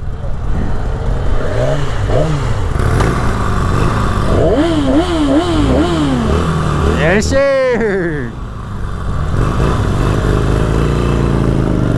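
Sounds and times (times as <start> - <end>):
motorcycle engine revving: 0.3 - 11.9.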